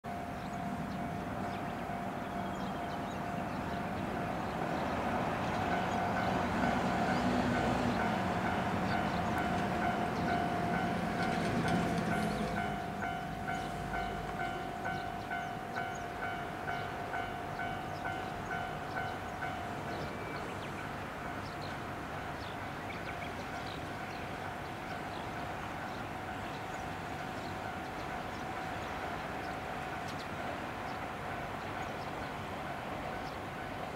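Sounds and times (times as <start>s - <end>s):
diesel railcar engine running: 0.1s - 33.9s.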